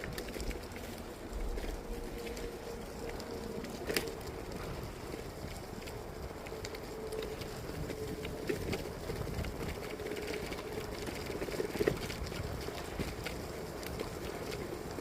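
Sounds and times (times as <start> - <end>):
bicycle tyres rumbling on trail: 0.0 - 15.0
grit clicking under tyres: 0.0 - 15.0.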